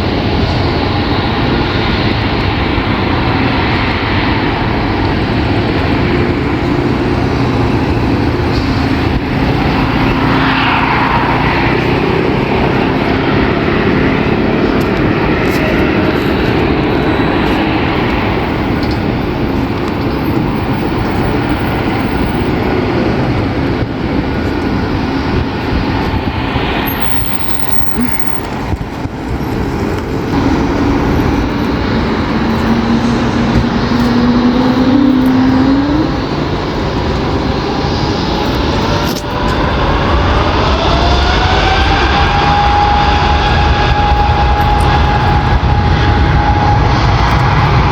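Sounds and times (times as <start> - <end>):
jet engine roar: 0.0 - 47.9.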